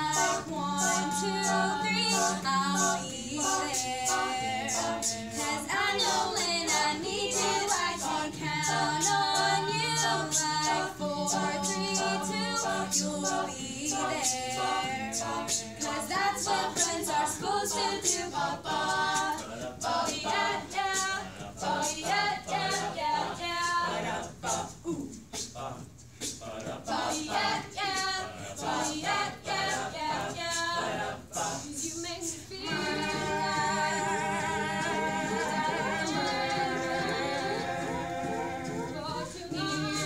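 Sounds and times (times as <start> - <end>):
choir singing in harmony: 0.0 - 40.0.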